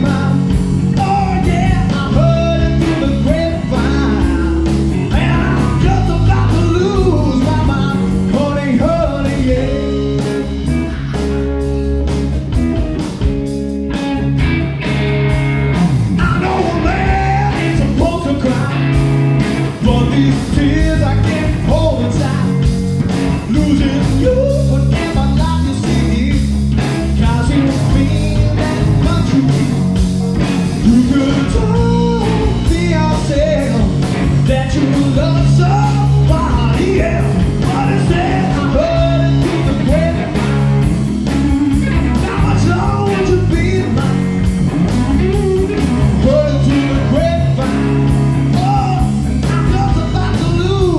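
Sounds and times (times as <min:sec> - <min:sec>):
person singing: 0:00.0 - 0:10.5, 0:16.1 - 0:19.0, 0:19.7 - 0:22.7, 0:23.4 - 0:29.8, 0:30.8 - 0:40.6, 0:41.3 - 0:44.3, 0:45.3 - 0:50.9
bass guitar: 0:00.0 - 0:50.9
drums: 0:00.0 - 0:50.9
electric guitars: 0:00.0 - 0:50.9.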